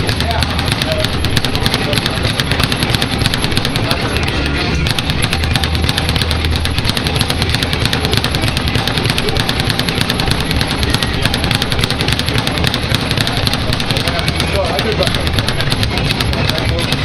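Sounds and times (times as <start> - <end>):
speed bag rattling: 0.0 - 17.0.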